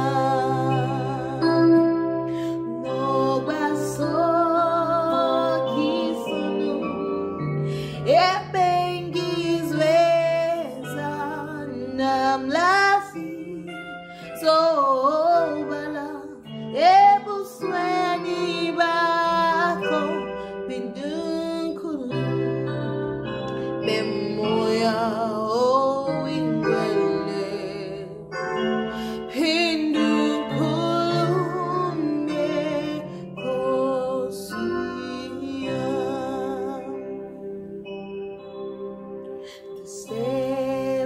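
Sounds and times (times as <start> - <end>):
woman singing: 0.0 - 37.6, 39.4 - 41.0
instrumental held chords: 0.0 - 41.0.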